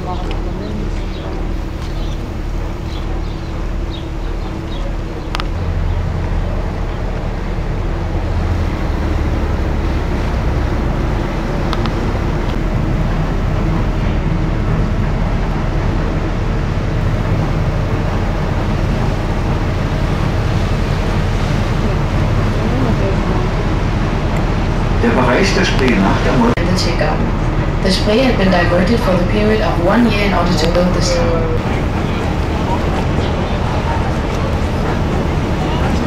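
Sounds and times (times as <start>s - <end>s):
boat engine running: 0.0s - 36.0s
water noise: 0.0s - 36.0s.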